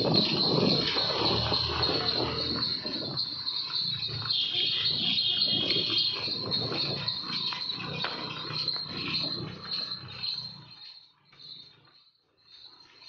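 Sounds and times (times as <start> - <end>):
high-pitched whine: 0.0 - 11.6
cart rattling: 0.0 - 13.0
hooves clopping on pavement: 0.0 - 13.0.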